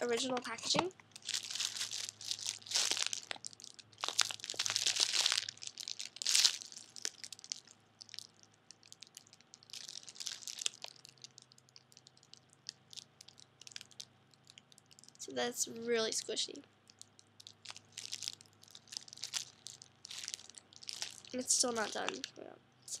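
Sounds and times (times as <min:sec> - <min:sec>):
plastic packaging crinkling: 0:00.0 - 0:15.2, 0:16.9 - 0:22.4.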